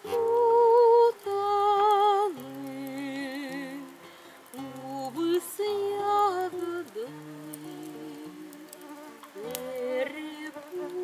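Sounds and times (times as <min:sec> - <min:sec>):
woman singing with vibrato: 0:00.0 - 0:04.0, 0:04.6 - 0:11.0
guitar accompaniment: 0:00.0 - 0:11.0.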